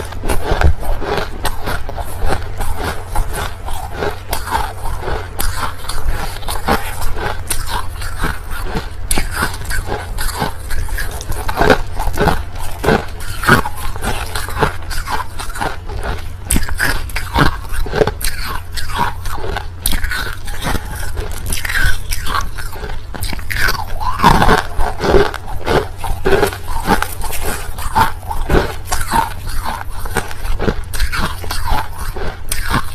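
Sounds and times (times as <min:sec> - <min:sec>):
crushed ice being chewed: 0:00.0 - 0:32.9.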